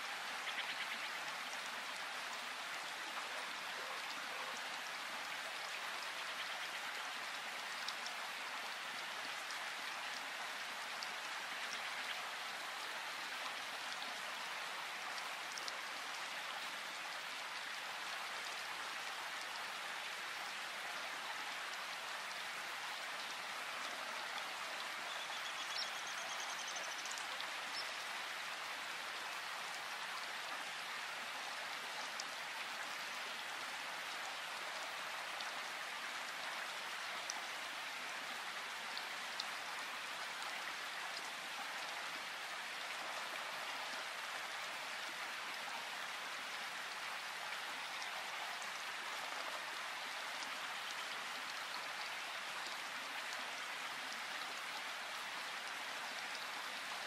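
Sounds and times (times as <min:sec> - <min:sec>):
rain falling in forest: 0:00.0 - 0:57.0.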